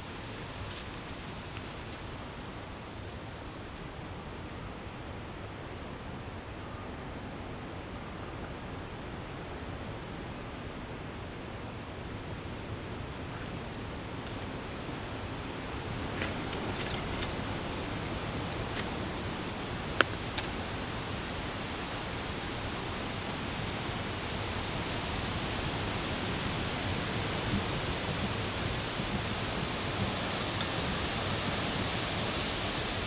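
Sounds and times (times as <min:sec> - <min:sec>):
rain hiss: 0:00.0 - 0:33.0.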